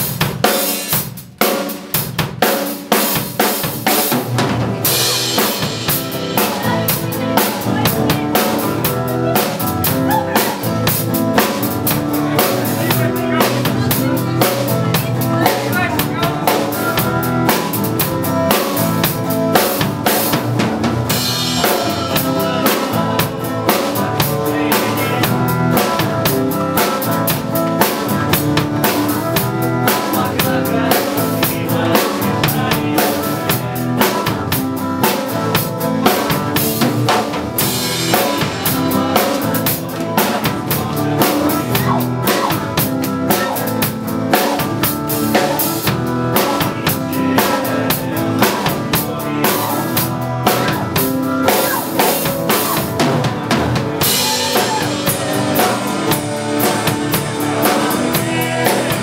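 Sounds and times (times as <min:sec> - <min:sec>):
music with drum kit: 0:00.0 - 0:59.0.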